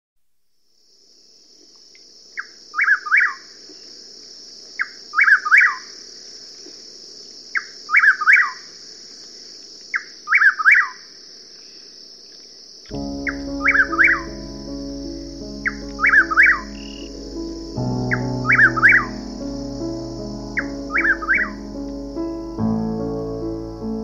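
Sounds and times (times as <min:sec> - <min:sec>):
high-pitched hiss: 0:00.5 - 0:24.0
songbird singing: 0:01.6 - 0:24.0.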